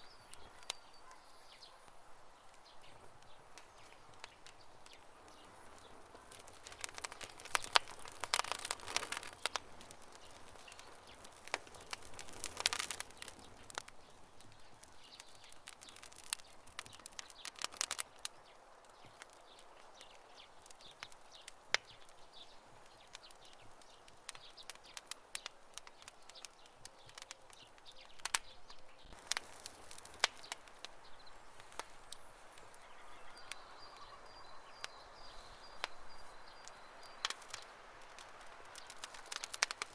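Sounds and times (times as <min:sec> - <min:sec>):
campfire crackling: 0:00.0 - 0:39.9
faint steady hiss: 0:00.0 - 0:39.9.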